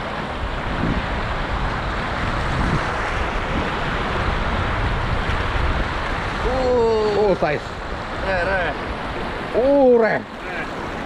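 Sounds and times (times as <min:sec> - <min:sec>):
sea surf on rocks: 0:00.0 - 0:11.0
wind buffeting microphone: 0:00.0 - 0:11.0.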